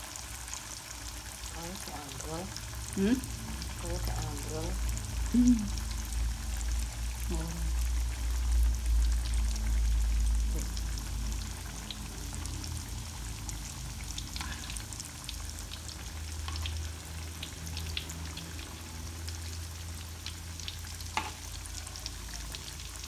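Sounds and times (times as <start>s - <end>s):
patties sizzling in frying oil: 0.0s - 23.0s
low steady hum: 1.3s - 23.0s.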